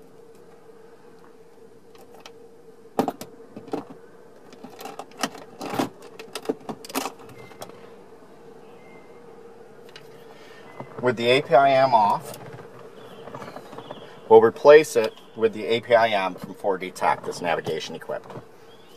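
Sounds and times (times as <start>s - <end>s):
faint hum: 0.0s - 18.9s.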